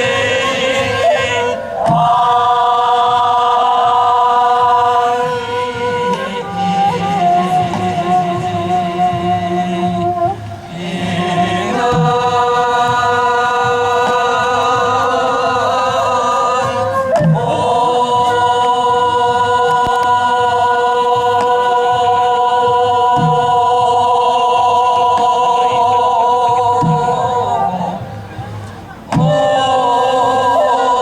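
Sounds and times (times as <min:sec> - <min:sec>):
group singing in unison: 0:00.0 - 0:31.0.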